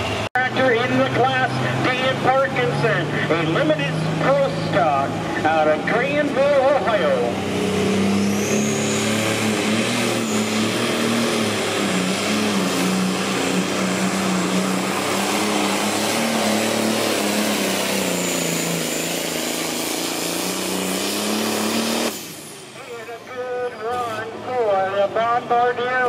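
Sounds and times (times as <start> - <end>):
tractor diesel engine at full load: 0.0 - 26.0.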